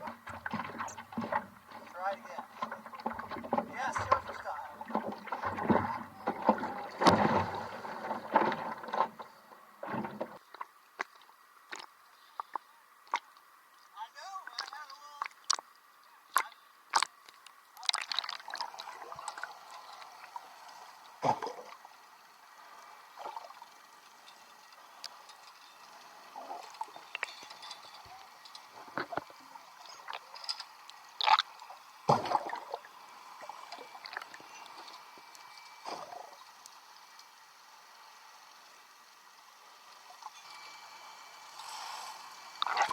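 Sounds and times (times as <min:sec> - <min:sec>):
water splashing and gurgling: 0:00.0 - 0:13.3, 0:16.4 - 0:25.3, 0:26.0 - 0:36.9, 0:39.9 - 0:42.9.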